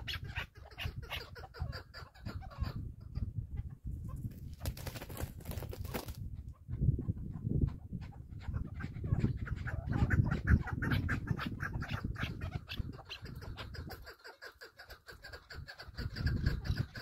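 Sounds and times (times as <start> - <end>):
bird clucking call: 0.0 - 4.2, 6.4 - 17.0.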